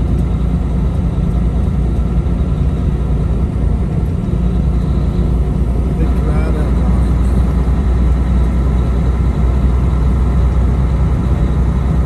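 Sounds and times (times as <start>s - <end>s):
diesel truck engine rumble: 0.0s - 12.0s
road noise: 0.0s - 12.0s.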